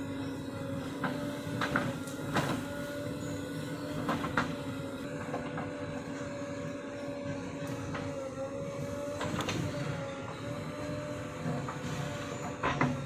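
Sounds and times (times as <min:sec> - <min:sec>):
backhoe loader engine running: 0:00.0 - 0:13.0.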